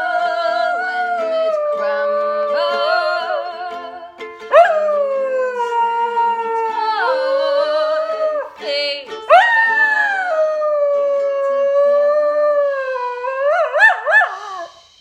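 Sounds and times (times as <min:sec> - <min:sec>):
dog howling: 0:00.0 - 0:03.5, 0:04.4 - 0:08.6, 0:09.3 - 0:14.8.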